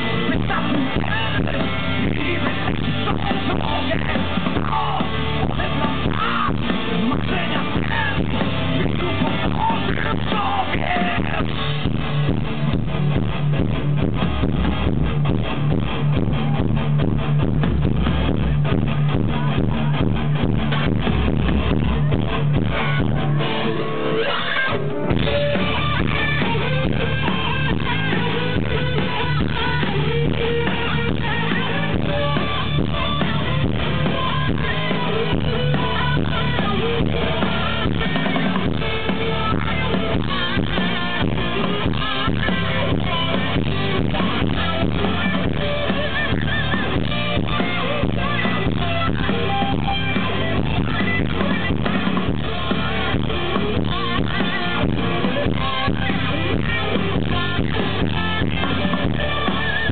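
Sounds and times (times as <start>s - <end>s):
drum kit steady beat: 0.0s - 24.0s, 24.9s - 59.9s
distorted electric guitars: 0.0s - 59.9s.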